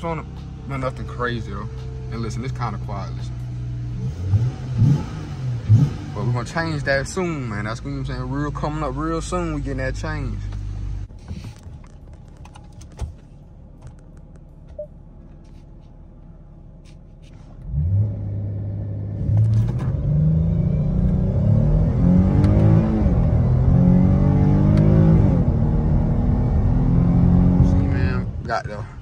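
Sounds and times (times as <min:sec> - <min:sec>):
car engine accelerating: 0:00.0 - 0:15.3, 0:17.2 - 0:29.0.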